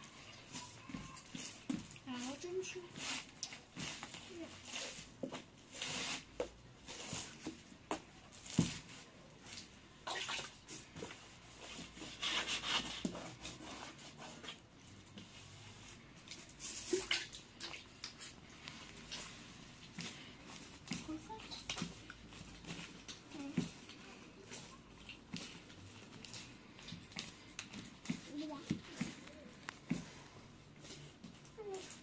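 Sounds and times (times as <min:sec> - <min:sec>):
dough squishing being kneaded: 0:00.0 - 0:32.0.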